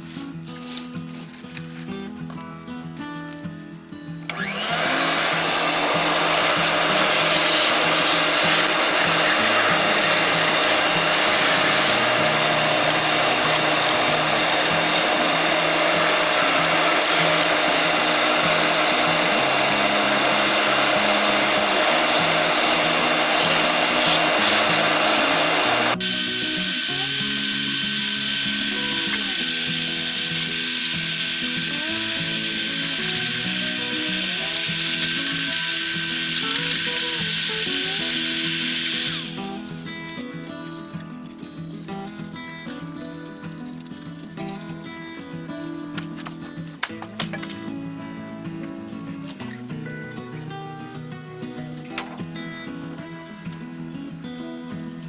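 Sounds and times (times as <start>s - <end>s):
background music: 0.0s - 55.0s
tool hissing: 4.3s - 45.4s, 51.5s - 55.0s.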